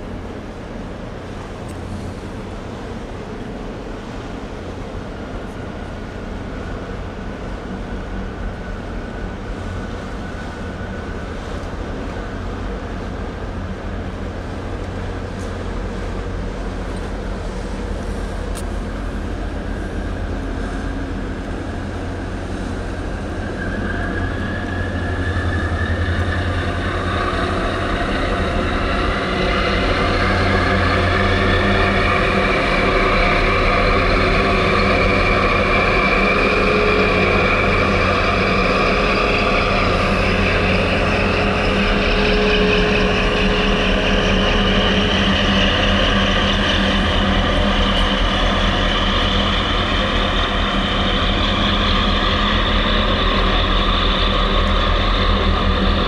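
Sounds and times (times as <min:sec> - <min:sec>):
diesel engine drone: 0:00.0 - 0:56.0
high multi-tone whine: 0:00.0 - 0:56.0.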